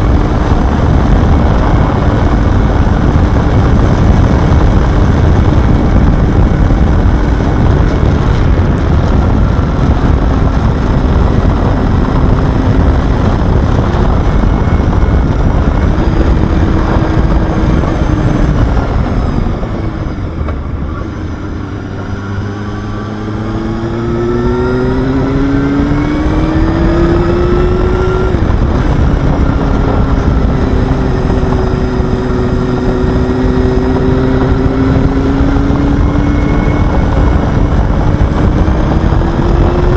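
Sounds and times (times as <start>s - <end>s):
motorcycle engine revving: 0.0s - 39.9s
rushing wind noise: 0.0s - 39.9s.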